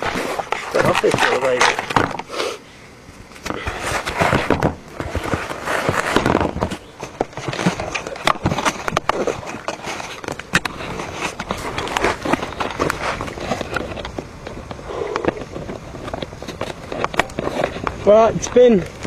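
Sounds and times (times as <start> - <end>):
camera handling crackles and knocks: 0.0 - 2.3, 3.2 - 19.0.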